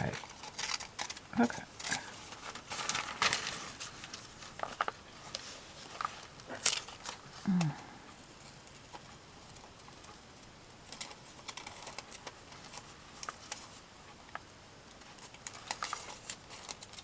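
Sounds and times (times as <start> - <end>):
paper clicks and rustles: 0.0 - 17.0.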